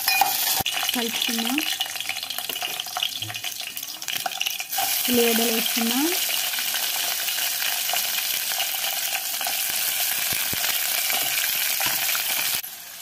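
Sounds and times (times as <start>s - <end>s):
onions and meat sizzling in oil: 0.0s - 13.0s.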